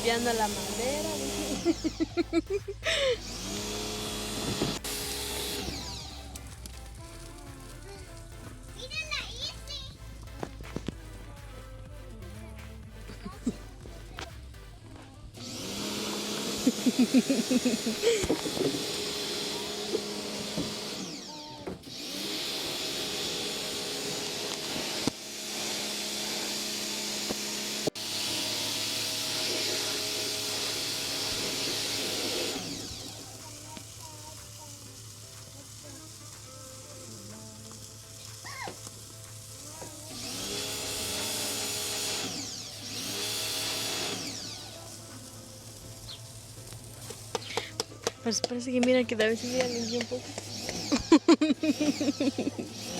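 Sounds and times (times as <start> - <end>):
small electric tool whirring: 0.0 - 8.8, 15.0 - 52.9.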